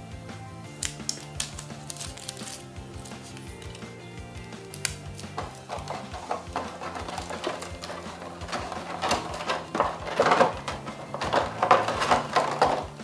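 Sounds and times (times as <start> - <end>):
plastic packaging crinkling: 0.9 - 3.8, 4.7 - 13.0.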